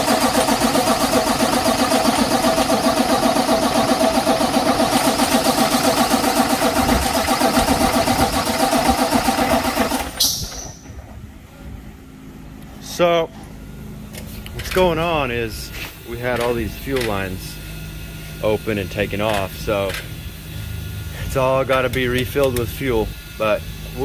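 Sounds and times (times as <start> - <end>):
diesel engine cranking: 0.0 - 11.5, 12.6 - 24.0.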